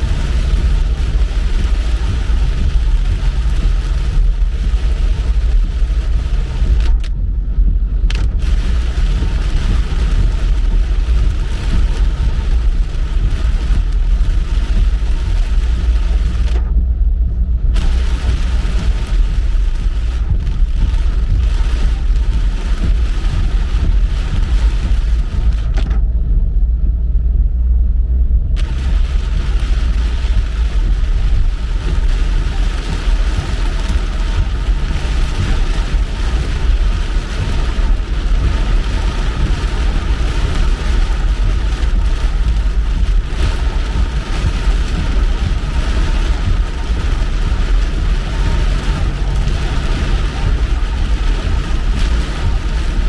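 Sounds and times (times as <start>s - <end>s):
rain hiss: 0.0s - 7.0s, 8.3s - 16.6s, 17.8s - 25.8s, 28.6s - 53.0s
road rumble: 0.0s - 53.0s.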